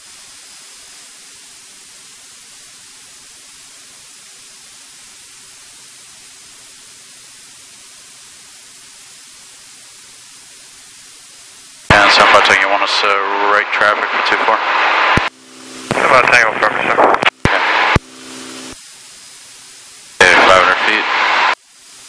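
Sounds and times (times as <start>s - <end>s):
intercom electronic hiss: 0.0s - 22.0s.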